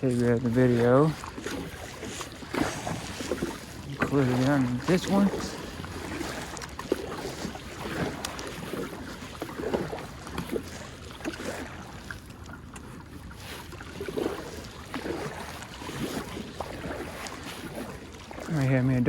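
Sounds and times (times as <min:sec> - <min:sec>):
paddle splashing in water: 0:00.0 - 0:19.0.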